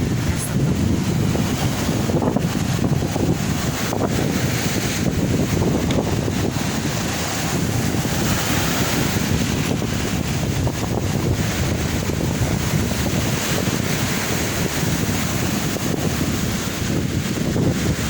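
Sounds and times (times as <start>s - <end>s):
sea waves on shore: 0.0s - 18.0s
wind buffeting microphone: 0.0s - 18.0s.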